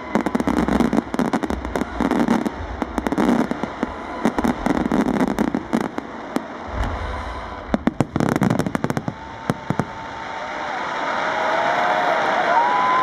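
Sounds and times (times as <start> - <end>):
fireworks bangs and crackling: 0.0 - 10.7.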